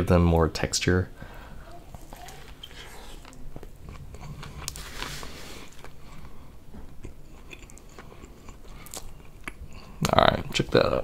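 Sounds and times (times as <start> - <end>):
chewing crispy food: 1.6 - 11.0.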